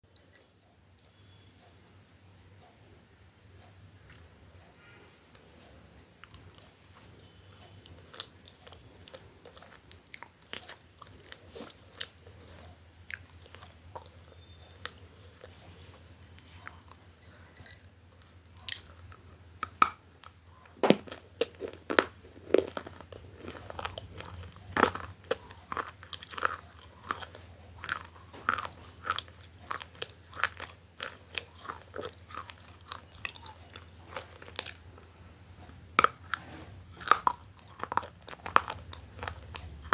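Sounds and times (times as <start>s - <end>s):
faint low hum: 0.1s - 39.9s
crunchy food being chewed: 5.6s - 39.9s.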